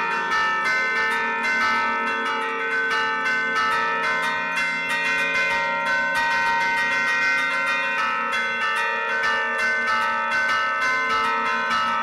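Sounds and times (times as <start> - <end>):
church bells ringing melody: 0.0 - 12.0.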